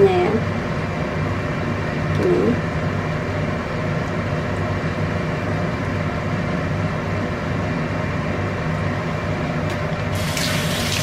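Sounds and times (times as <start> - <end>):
mechanical hum with low drone: 0.0 - 11.0.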